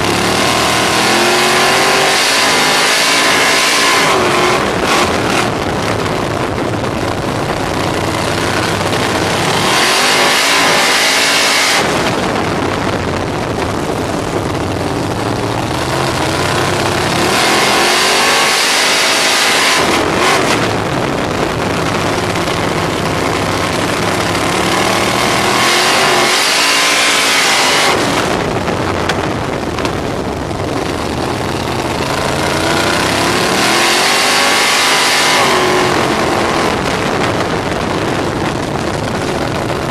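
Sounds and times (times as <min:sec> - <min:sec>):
racing car engine revving: 0:00.0 - 0:13.8, 0:14.6 - 0:30.1, 0:30.7 - 0:39.9.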